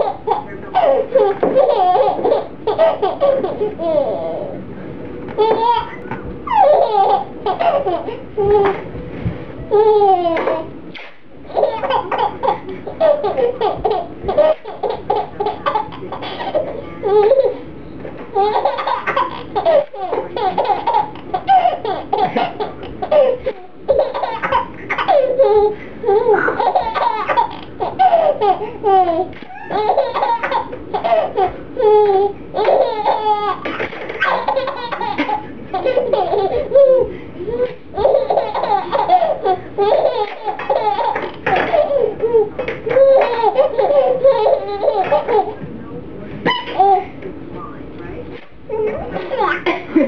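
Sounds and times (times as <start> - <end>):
baby laughing: 0.0 - 4.6, 5.4 - 8.8, 9.7 - 10.7, 11.5 - 17.6, 18.3 - 45.6, 46.4 - 47.1, 48.7 - 50.0.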